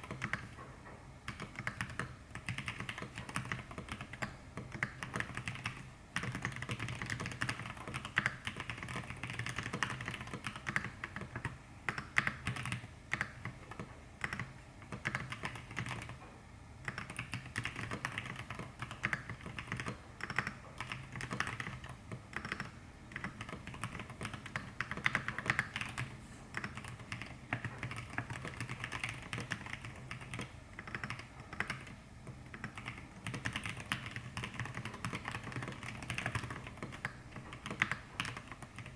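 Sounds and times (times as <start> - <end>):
mechanical keyboard typing: 0.0 - 0.6, 1.2 - 16.2, 16.8 - 38.9.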